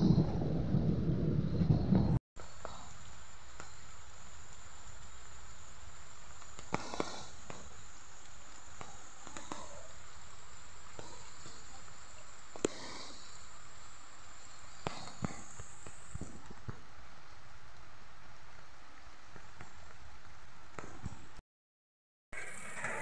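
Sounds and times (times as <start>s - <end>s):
rain: 0.0s - 21.4s, 22.4s - 23.0s.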